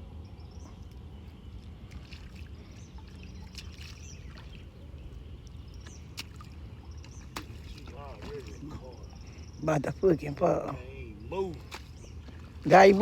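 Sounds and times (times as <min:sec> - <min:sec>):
steady low rumble: 0:00.0 - 0:13.0
water trickling and sloshing: 0:00.0 - 0:13.0
small splashes and ticks: 0:00.6 - 0:13.0.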